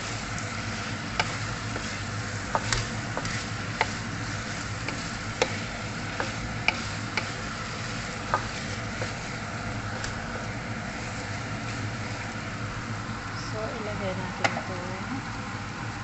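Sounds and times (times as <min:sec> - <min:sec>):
curry sizzling in a pan: 0:00.0 - 0:15.9.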